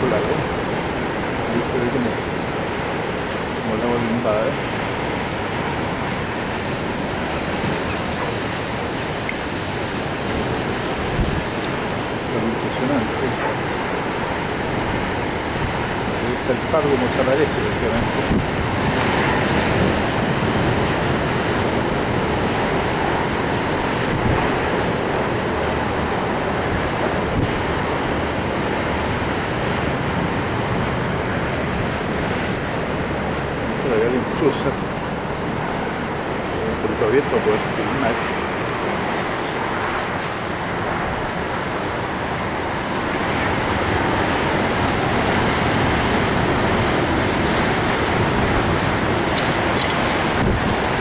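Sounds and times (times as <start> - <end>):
surf breaking on shore: 0.0 - 51.0
wind blowing on microphone: 0.0 - 51.0.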